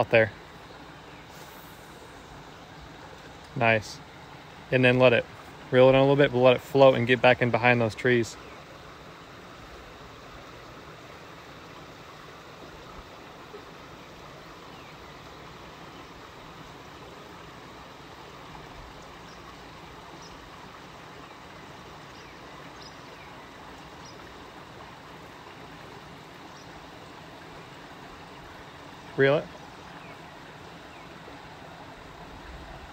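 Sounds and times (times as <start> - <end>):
river water rushing: 0.0 - 32.9.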